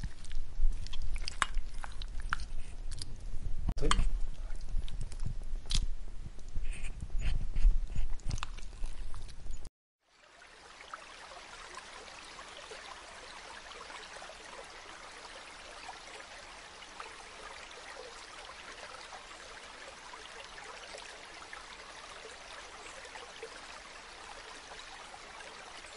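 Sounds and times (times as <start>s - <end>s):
trickling lapping water: 0.0s - 3.1s, 8.2s - 25.9s
water drips and splashes: 0.0s - 3.1s, 8.2s - 25.9s.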